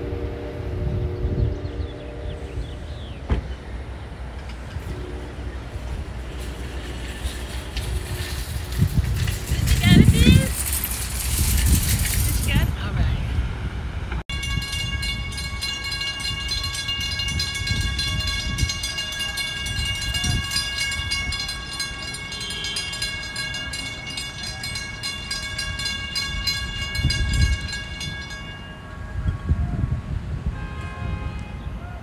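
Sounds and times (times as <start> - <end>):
crossing warning bell ringing: 0.0 - 13.0, 14.3 - 31.2
low traffic rumble: 0.0 - 32.0.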